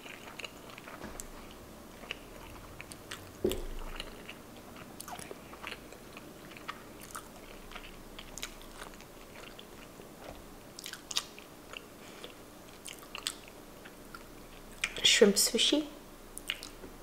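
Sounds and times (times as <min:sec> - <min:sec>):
wet chewing mouth clicks: 0:00.0 - 0:15.0, 0:16.4 - 0:16.8.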